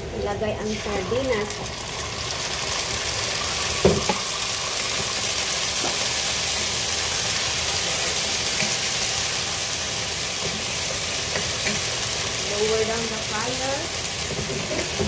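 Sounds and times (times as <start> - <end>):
fish sizzling in hot oil: 0.3 - 15.0.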